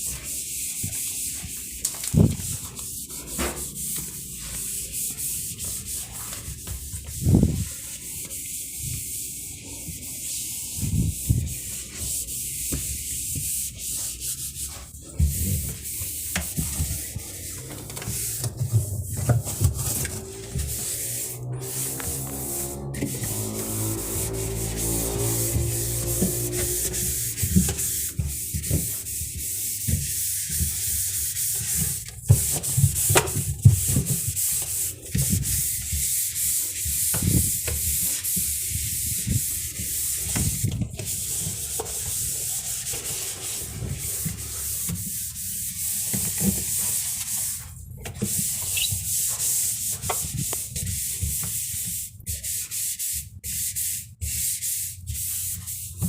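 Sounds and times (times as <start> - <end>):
sponge scrubbing a surface: 0.0 - 56.0.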